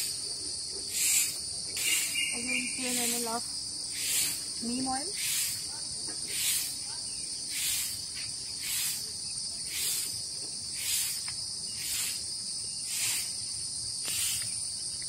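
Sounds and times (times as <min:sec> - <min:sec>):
insects shrilling in chorus: 0:00.0 - 0:15.0.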